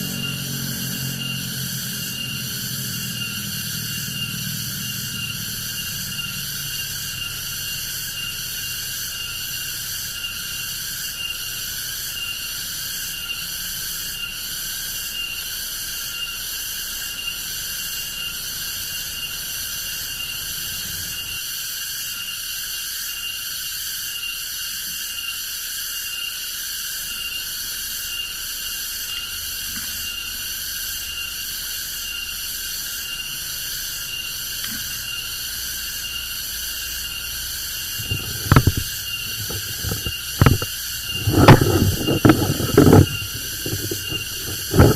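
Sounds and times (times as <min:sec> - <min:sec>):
forest insect chorus: 0:00.0 - 0:44.9.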